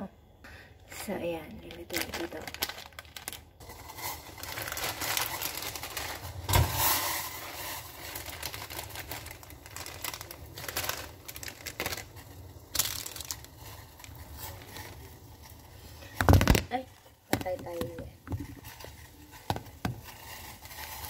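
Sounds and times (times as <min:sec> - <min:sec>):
plastic packet crinkling: 0:01.5 - 0:06.5, 0:07.4 - 0:21.0.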